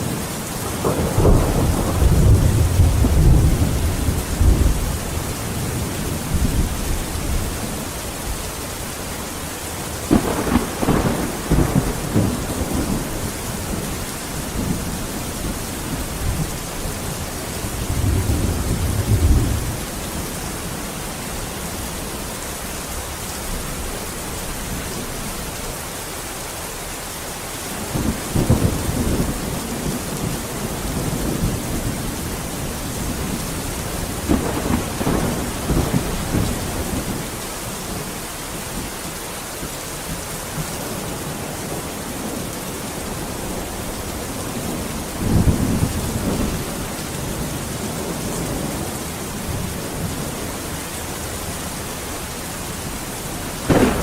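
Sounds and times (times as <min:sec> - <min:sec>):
thunder rumbling: 0:00.0 - 0:22.2, 0:27.7 - 0:38.8, 0:40.0 - 0:54.0
heavy rain: 0:00.0 - 0:54.0.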